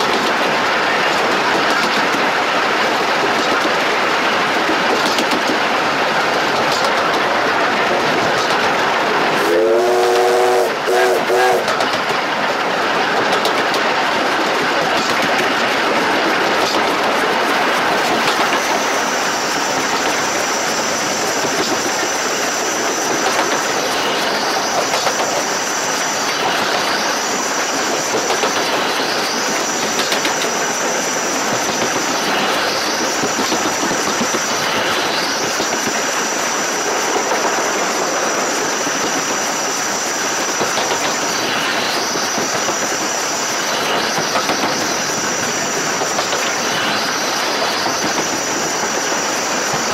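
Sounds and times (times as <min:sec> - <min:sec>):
steam locomotive wheels clattering: 0:00.0 - 0:49.9.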